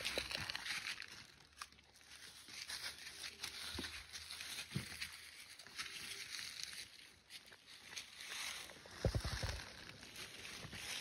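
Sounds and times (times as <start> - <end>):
goats rustling leaves and twigs: 0.0 - 11.0.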